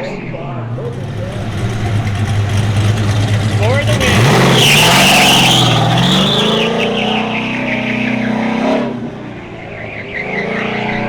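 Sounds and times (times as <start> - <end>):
truck engine running hard: 0.6 - 10.8
tires squealing: 0.7 - 11.0.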